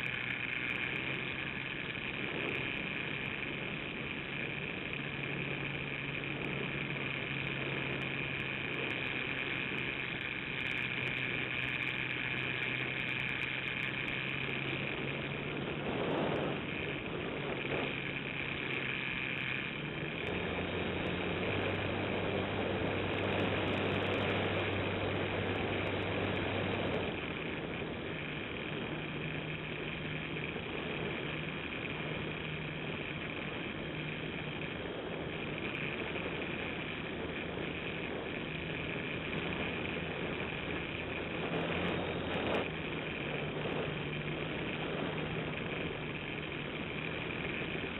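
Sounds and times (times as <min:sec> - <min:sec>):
model airplane motor whine: 0:00.0 - 0:47.9.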